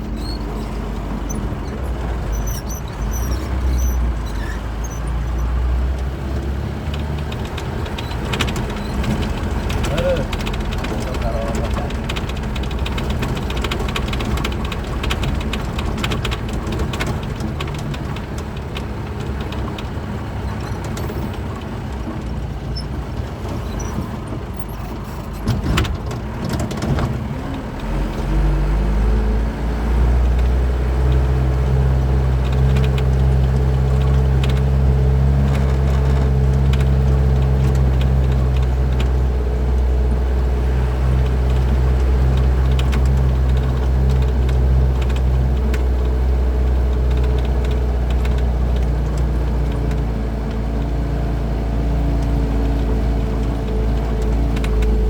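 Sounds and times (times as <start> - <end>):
rough road noise: 0.0 - 55.0
truck engine running: 0.0 - 55.0.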